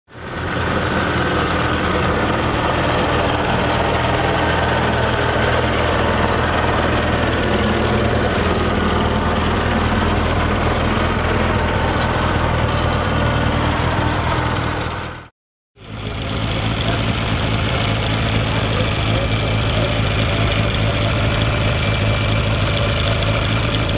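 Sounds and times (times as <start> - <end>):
tractor engine running steadily: 0.1 - 23.9.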